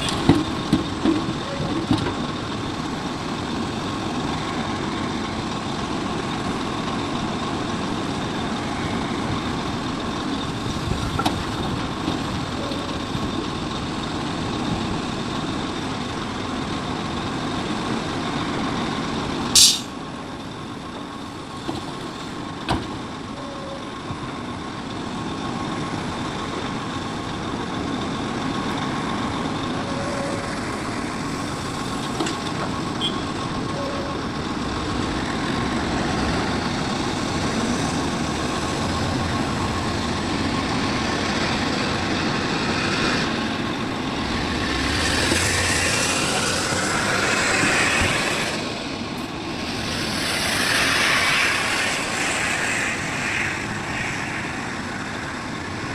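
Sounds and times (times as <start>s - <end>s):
heavy diesel engines running: 0.0s - 55.9s.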